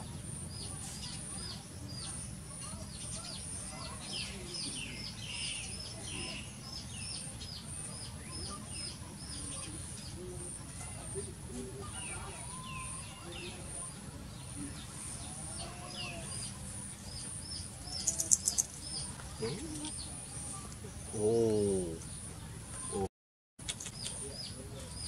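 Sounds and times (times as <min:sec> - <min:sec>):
outdoor background hum: 0:00.0 - 0:25.0
small birds chirping: 0:00.0 - 0:25.0.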